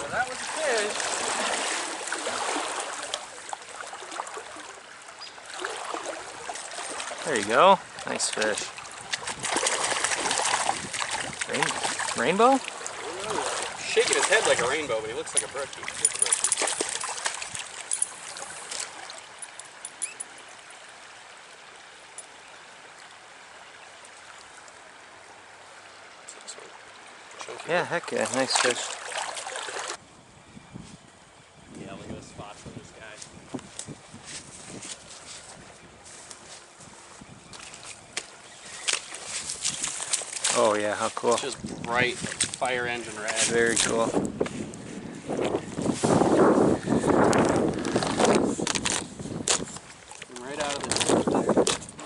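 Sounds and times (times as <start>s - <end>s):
stream water flowing: 0.0s - 30.0s, 33.3s - 52.0s.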